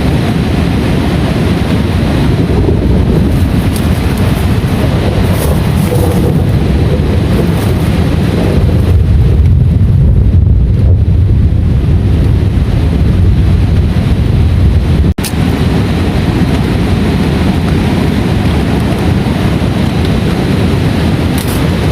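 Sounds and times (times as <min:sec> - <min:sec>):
heavy rain: 0:00.0 - 0:21.9
wind buffeting microphone: 0:00.0 - 0:21.9.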